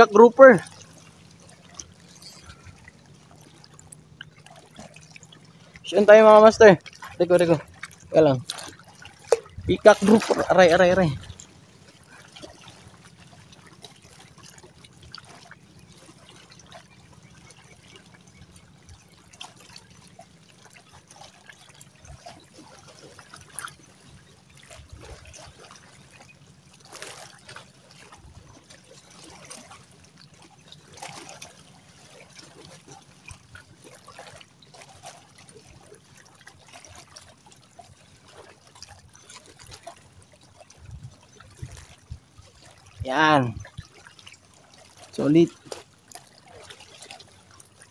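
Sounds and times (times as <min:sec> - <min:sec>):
water lapping at shoreline: 0:00.0 - 0:47.9.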